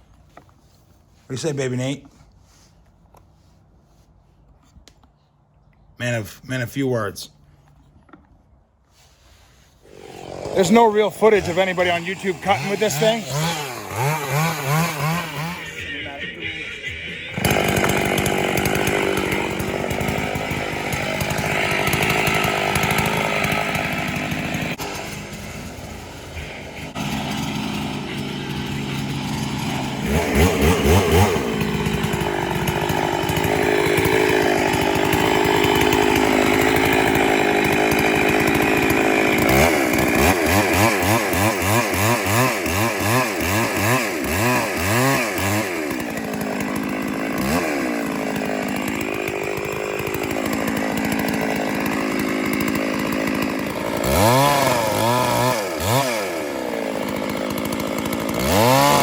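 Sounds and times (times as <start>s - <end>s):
chainsaw revving: 9.8s - 59.0s.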